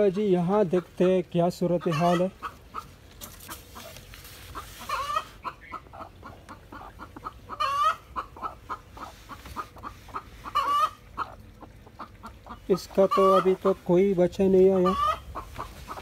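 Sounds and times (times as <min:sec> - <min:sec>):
hen clucking: 0:00.0 - 0:16.0.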